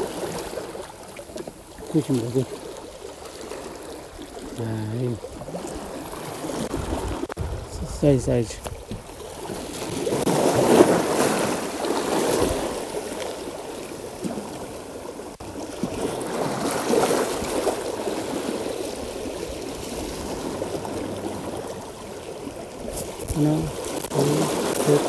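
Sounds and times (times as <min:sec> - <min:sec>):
seawater washing and sloshing: 0:00.0 - 0:25.0.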